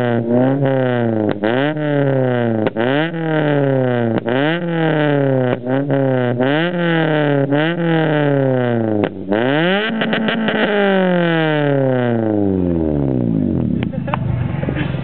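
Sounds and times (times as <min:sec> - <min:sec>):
car engine revving: 0:00.0 - 0:15.0
exhaust crackle: 0:00.0 - 0:15.0.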